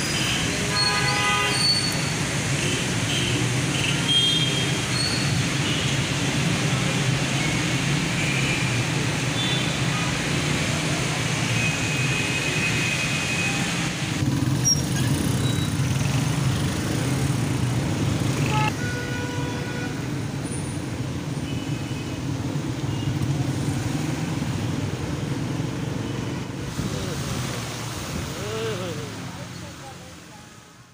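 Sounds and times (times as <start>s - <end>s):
traffic on wet road: 0.0s - 30.9s.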